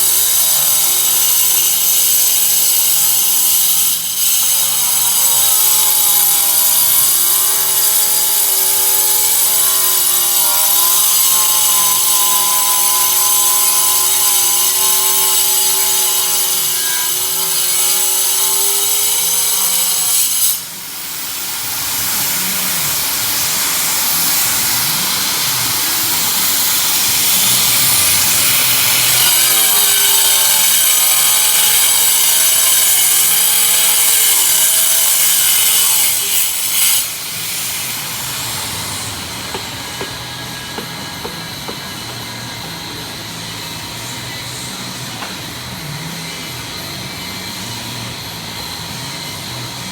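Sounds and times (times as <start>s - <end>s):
harsh noisy cutting sound: 0.0s - 49.9s.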